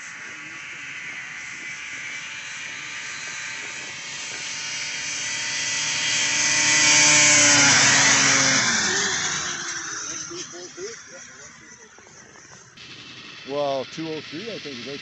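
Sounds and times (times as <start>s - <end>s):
snowmobile engines whining: 0.0s - 15.0s.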